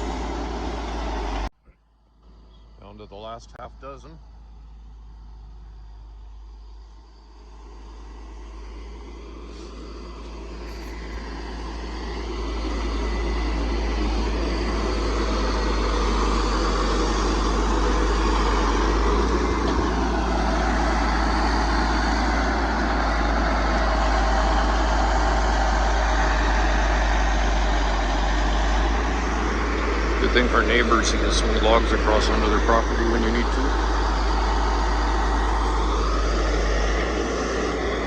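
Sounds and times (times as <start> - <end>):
diesel truck engine revving: 0.0 - 1.5, 2.2 - 38.0.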